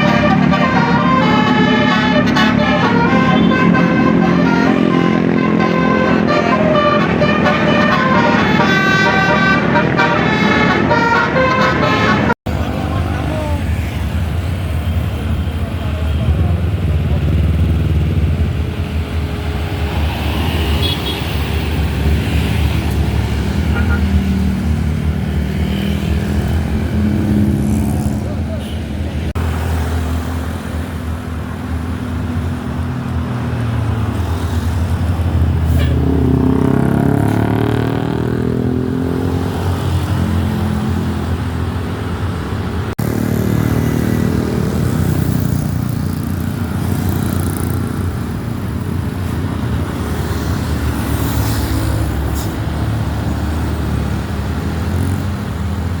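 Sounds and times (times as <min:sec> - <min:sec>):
passing traffic: 0:00.0 - 0:56.0
vehicle engines rumbling: 0:00.0 - 0:56.0.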